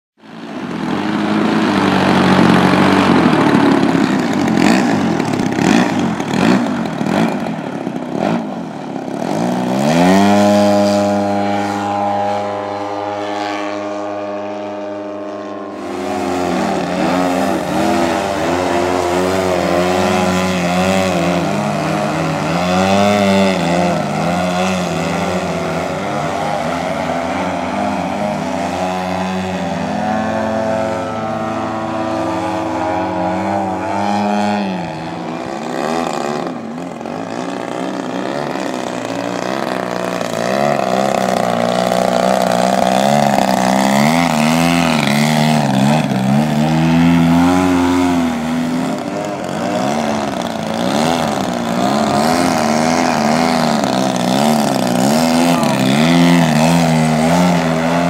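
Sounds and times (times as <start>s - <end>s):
model airplane engines roaring: 0.2s - 58.0s.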